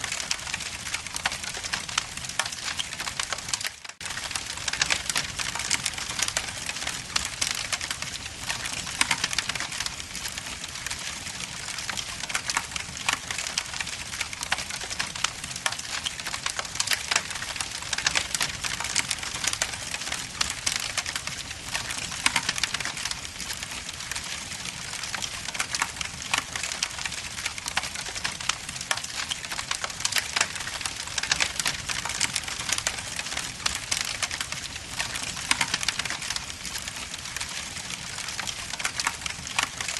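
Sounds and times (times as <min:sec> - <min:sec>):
log fire crackling: 0:00.0 - 0:39.9.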